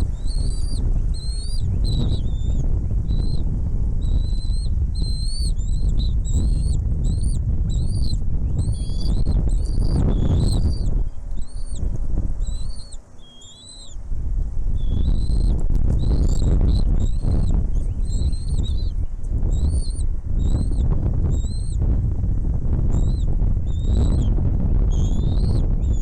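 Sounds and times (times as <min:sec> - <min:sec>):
heavy low rumble: 0:00.0 - 0:12.7, 0:14.0 - 0:26.0
small birds chirping: 0:00.0 - 0:21.9, 0:22.8 - 0:26.0.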